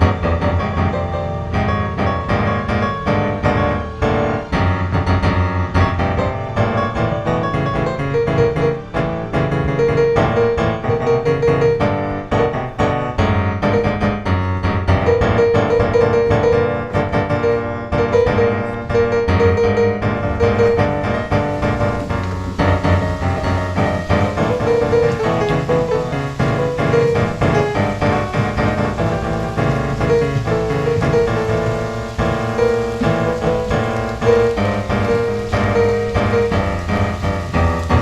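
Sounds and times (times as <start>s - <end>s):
piano run: 0.0s - 38.0s.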